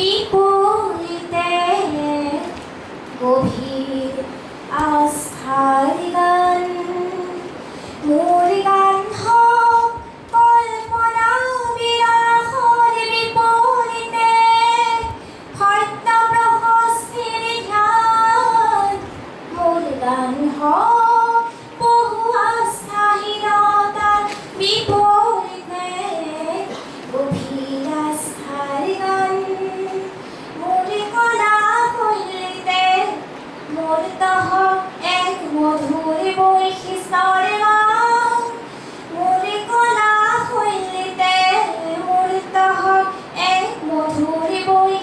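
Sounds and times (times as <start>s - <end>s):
girl singing into microphone: 0.0s - 45.0s.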